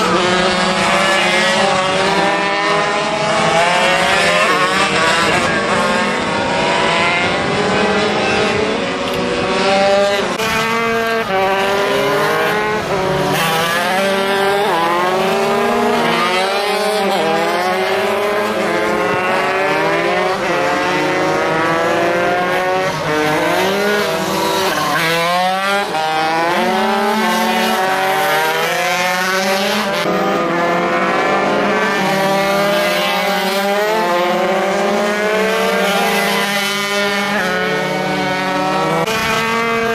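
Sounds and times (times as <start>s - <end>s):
racing motorcycles revving: 0.0s - 39.9s.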